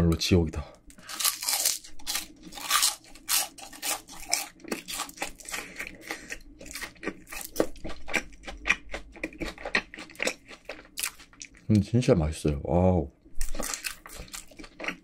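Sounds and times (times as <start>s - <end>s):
chewing crunchy fried food: 0.8s - 11.9s, 13.4s - 15.0s.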